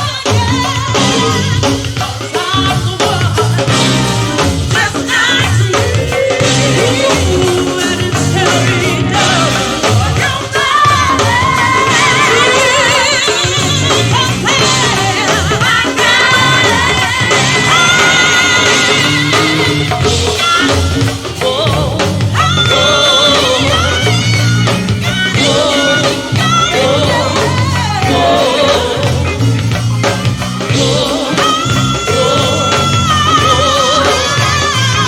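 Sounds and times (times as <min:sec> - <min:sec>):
drum beat: 0:00.0 - 0:35.0
lead vocal with vibrato: 0:00.0 - 0:35.0
live band playing: 0:00.0 - 0:35.0.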